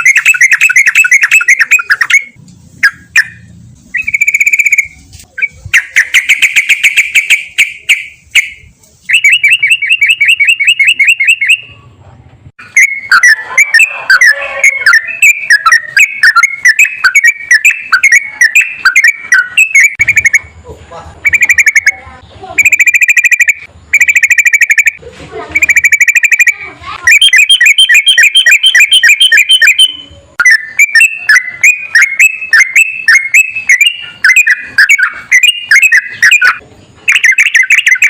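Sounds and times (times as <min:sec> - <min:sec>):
bulbul chattering song: 0:00.0 - 0:12.0, 0:12.6 - 0:38.0.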